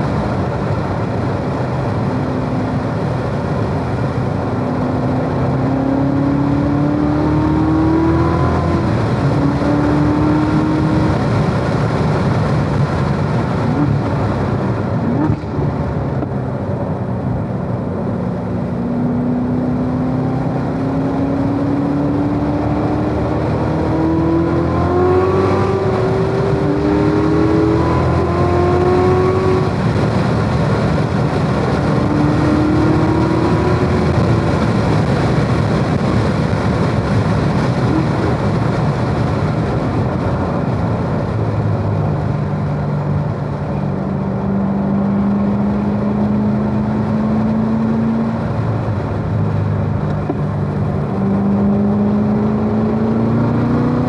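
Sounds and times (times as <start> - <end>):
car engine at full throttle: 0.0 - 54.0
tyre and road noise: 0.0 - 54.0.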